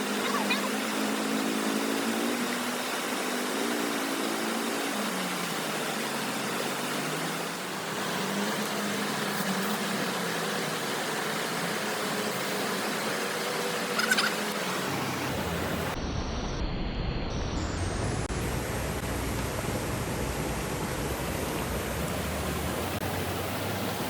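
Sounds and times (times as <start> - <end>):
river water rushing: 0.0 - 16.0, 18.3 - 24.0.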